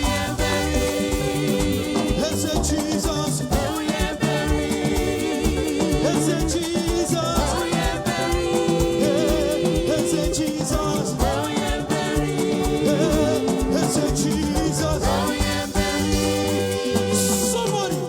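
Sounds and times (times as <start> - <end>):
live gospel band music: 0.0 - 18.0.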